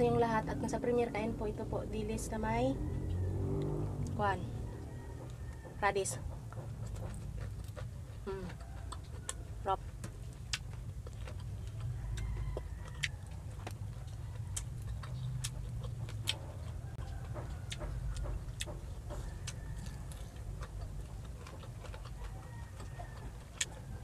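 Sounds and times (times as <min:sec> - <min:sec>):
low steady hum: 0:00.0 - 0:24.0
crunchy chewing: 0:02.2 - 0:24.0.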